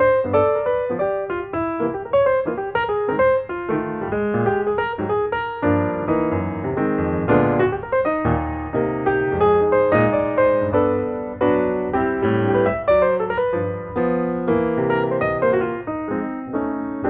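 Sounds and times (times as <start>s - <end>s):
piano tune: 0.0s - 17.0s.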